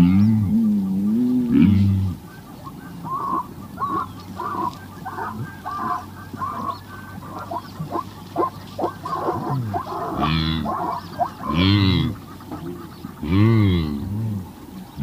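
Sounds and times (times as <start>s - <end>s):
wildebeest honking grunts: 0.0s - 15.0s.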